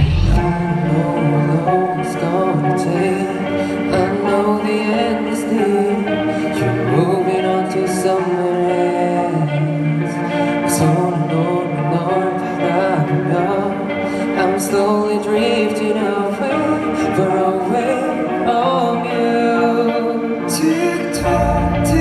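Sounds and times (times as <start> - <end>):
man singing: 0.0 - 22.0
rock band playing live: 0.0 - 22.0.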